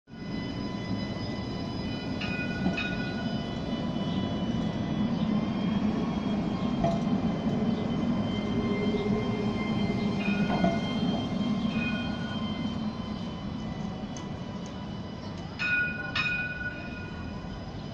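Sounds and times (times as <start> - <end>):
tram rumbling past: 0.1 - 17.9.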